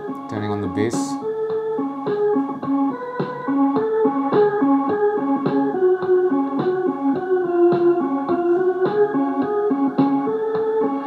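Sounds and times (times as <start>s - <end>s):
keyboard melody over steady beat: 0.0s - 11.0s.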